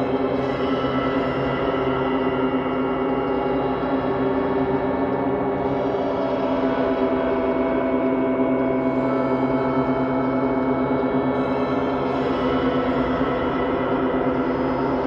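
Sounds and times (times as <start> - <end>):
dark ambient drone music: 0.0 - 15.0.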